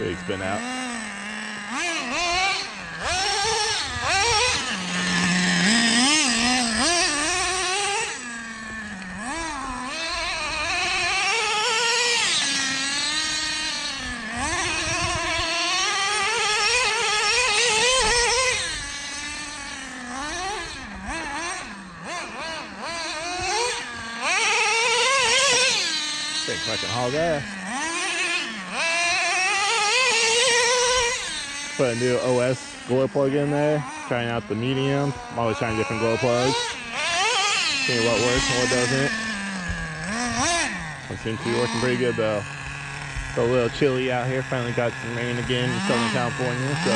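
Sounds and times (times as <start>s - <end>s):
rc truck engine buzzing whine: 0.0s - 46.9s.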